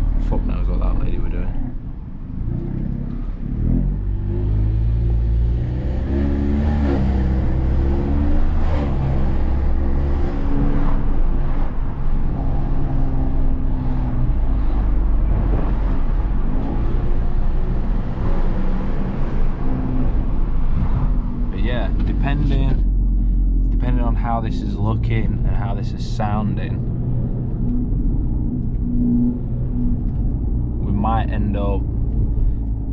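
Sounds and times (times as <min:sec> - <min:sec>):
car engine accelerating: 0:00.0 - 0:32.9
road and tyre noise: 0:00.0 - 0:32.9.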